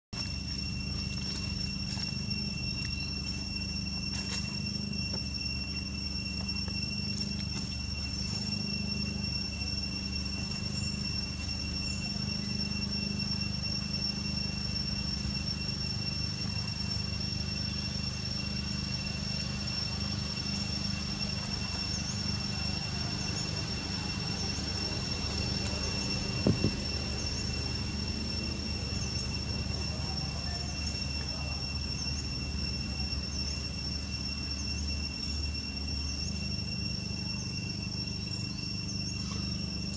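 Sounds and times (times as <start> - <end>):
high-pitched whine: 0.1 - 39.9
faint chirps: 0.2 - 39.9.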